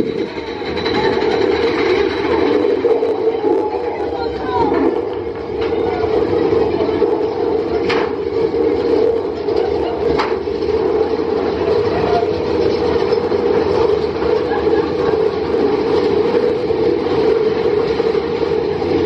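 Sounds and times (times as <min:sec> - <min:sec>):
coaster cars rumbling on track: 0:00.0 - 0:19.0.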